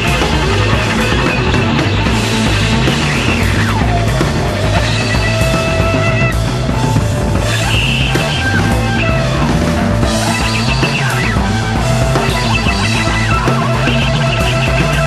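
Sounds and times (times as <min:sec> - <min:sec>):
jazz-rock band playing: 0:00.0 - 0:15.0.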